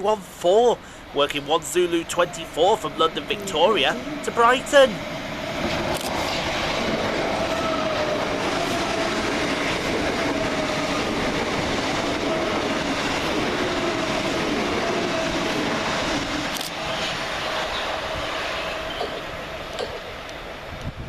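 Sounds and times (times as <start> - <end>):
train wheels rumbling on rails: 1.1 - 21.0.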